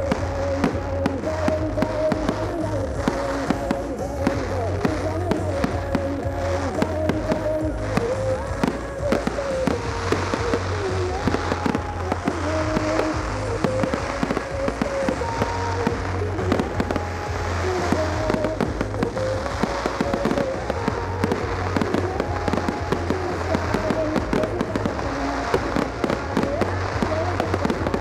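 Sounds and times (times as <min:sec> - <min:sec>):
fireworks bangs and crackles: 0:00.0 - 0:28.0
melodic tune with bass: 0:00.0 - 0:28.0.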